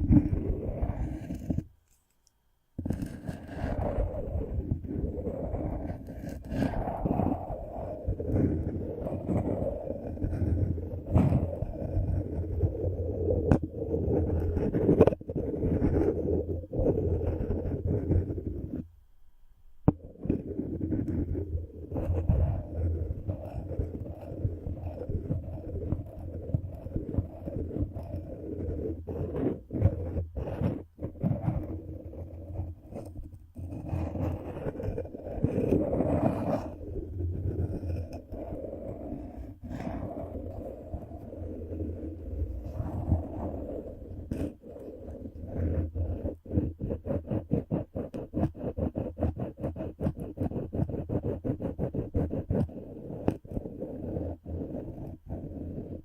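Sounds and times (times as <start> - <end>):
scraping and rubbing on microphone: 0.0 - 2.2, 2.8 - 18.9, 19.8 - 56.0
close ticking and scratching: 0.0 - 18.9, 19.8 - 56.0.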